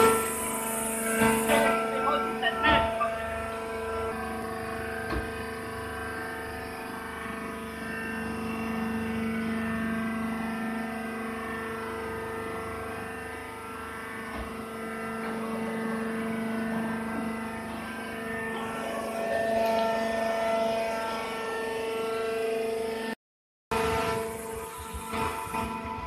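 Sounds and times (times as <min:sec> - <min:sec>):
hydraulic motor and pump humming: 0:00.0 - 0:26.0.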